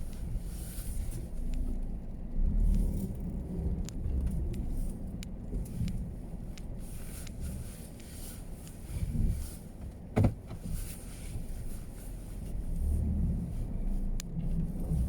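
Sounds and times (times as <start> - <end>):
car road rumble on snow: 0.0 - 15.0.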